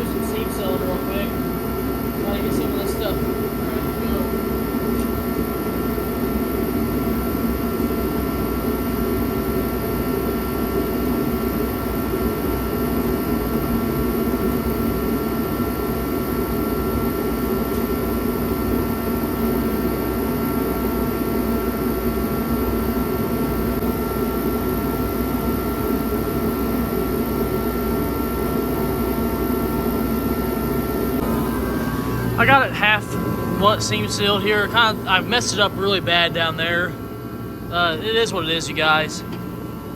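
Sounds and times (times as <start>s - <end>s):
faint constant whine: 0.0s - 39.9s
heater burner and fan rushing: 0.0s - 39.9s.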